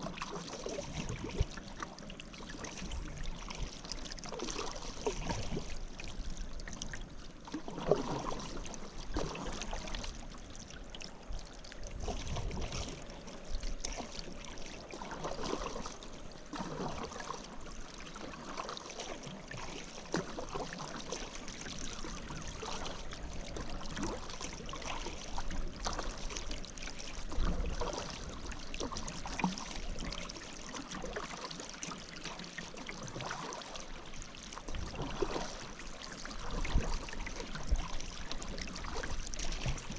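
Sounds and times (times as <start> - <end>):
paddle splashing in water: 0.0 - 39.9
water running off paddle: 0.0 - 39.9.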